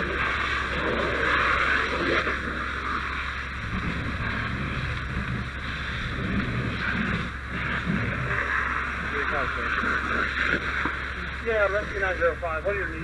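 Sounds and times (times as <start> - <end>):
fire hose water rushing: 0.0 - 13.0.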